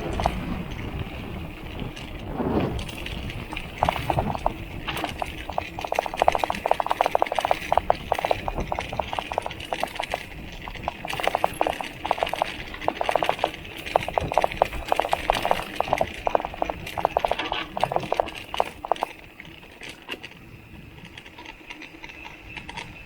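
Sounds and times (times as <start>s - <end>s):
bike rolling over rough ground: 0.0s - 23.0s.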